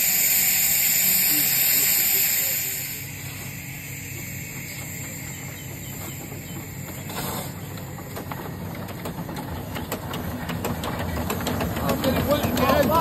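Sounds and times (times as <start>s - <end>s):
steam locomotive rumble and hiss: 0.0s - 13.0s.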